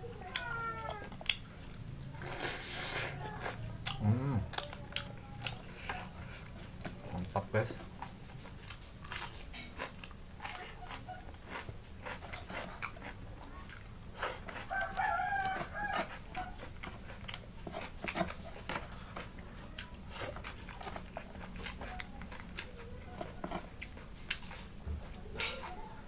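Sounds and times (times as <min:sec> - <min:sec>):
chewing: 0:00.2 - 0:26.0.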